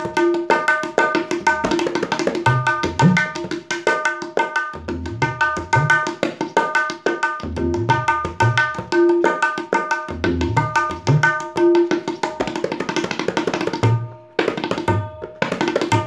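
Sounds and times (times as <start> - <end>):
tabla drumming: 0.0 - 16.0.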